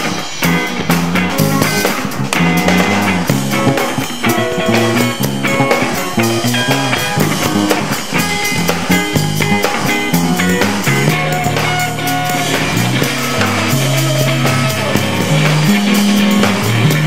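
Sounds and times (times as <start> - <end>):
electric guitar lead: 0.0 - 17.0
rock backing track with drums: 0.0 - 17.0.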